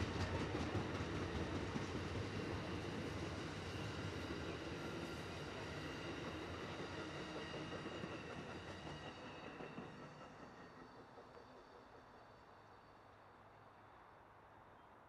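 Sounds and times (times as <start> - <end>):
train wheels rumbling on track: 0.0 - 13.2.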